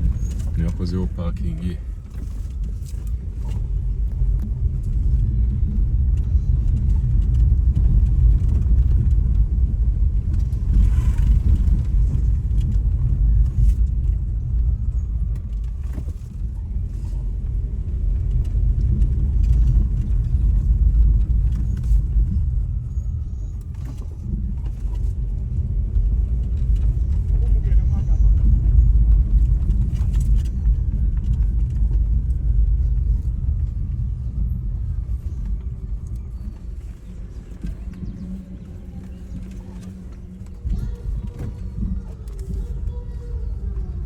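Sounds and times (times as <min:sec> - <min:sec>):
vehicle rumbling along road: 0:00.0 - 0:44.0.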